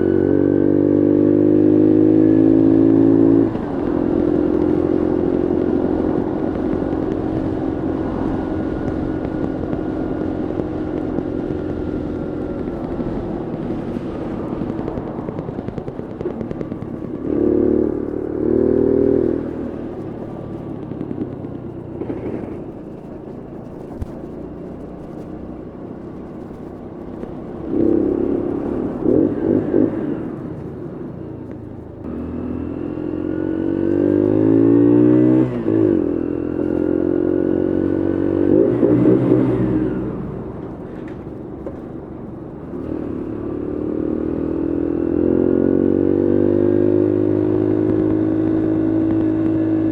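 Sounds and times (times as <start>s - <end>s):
small motorcycle engine revving: 0.0s - 42.0s, 42.6s - 49.9s.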